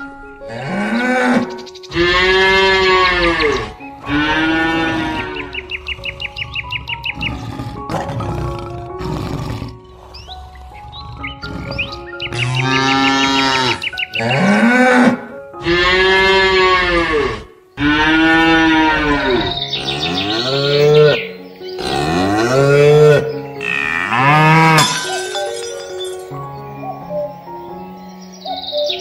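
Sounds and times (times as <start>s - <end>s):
cow mooing: 0.5s - 21.2s, 21.8s - 24.8s.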